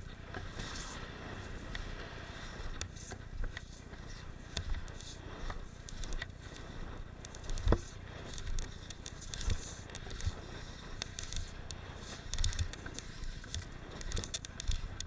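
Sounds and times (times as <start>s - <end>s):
skis scraping over snow: 0.1s - 15.0s
sharp clicks and knocks: 2.7s - 15.0s.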